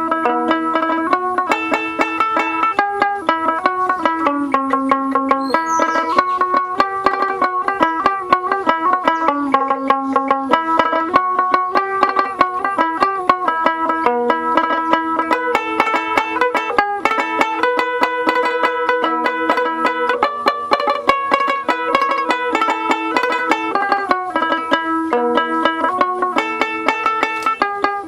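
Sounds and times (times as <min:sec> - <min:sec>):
fast banjo-style plucked tune: 0:00.0 - 0:28.0.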